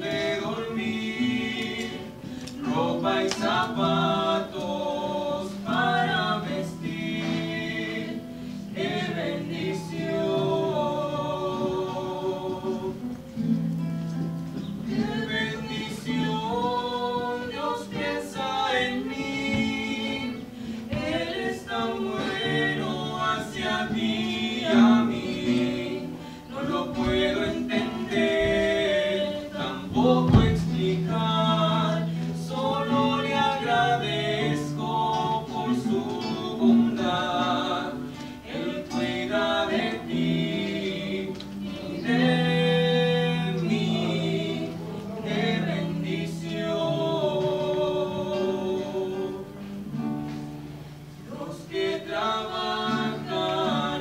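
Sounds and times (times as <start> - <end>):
person singing worship song: 0.0 - 13.4, 14.8 - 54.0
acoustic guitar: 0.0 - 54.0.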